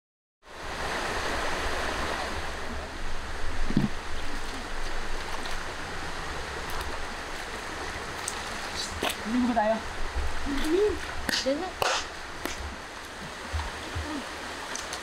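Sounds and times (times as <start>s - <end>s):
river flowing over rocks: 0.5s - 15.0s.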